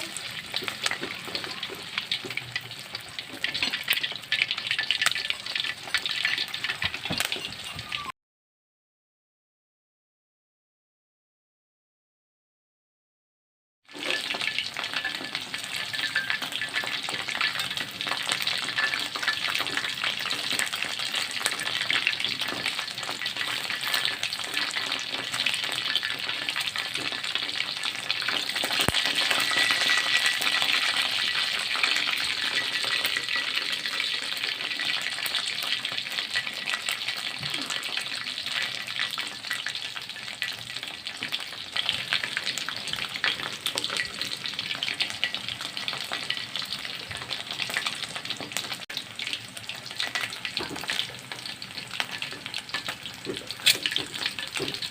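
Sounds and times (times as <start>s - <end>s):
food sizzling in hot oil: 0.0s - 8.1s, 13.9s - 54.9s.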